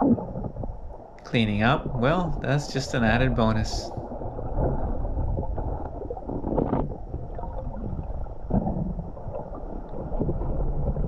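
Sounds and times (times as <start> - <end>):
muffled underwater river current: 0.0 - 11.0.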